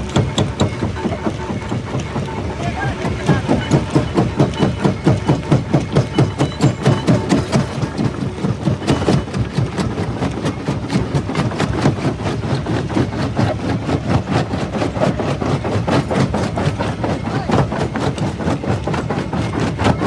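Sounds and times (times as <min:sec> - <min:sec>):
jaw crusher running: 0:00.0 - 0:20.0.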